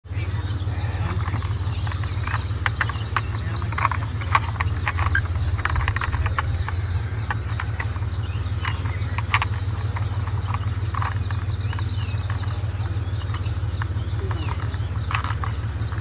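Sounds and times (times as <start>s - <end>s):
steady low hum: 0.0s - 16.0s
light clicks and knocks: 0.3s - 16.0s.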